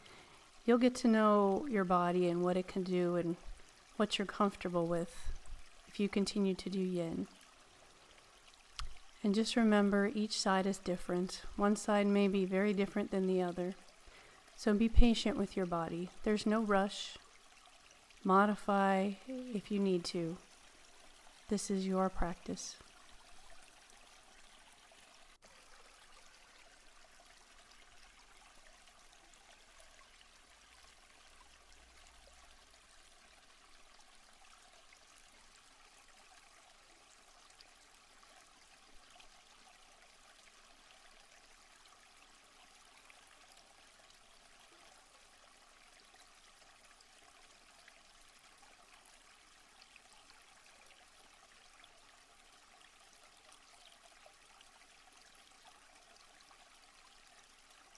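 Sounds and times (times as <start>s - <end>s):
faint stream water flowing: 0.0s - 57.9s.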